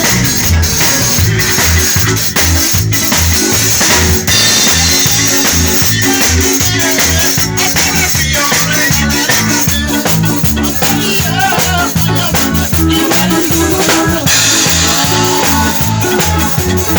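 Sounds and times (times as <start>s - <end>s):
drum kit beat: 0.0s - 16.9s
live band music: 0.0s - 16.9s
low bass line: 0.0s - 16.9s.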